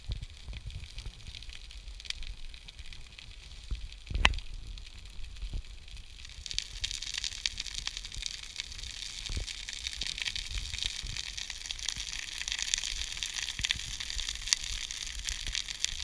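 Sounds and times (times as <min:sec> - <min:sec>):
grass fire crackling and popping: 0:00.0 - 0:16.0.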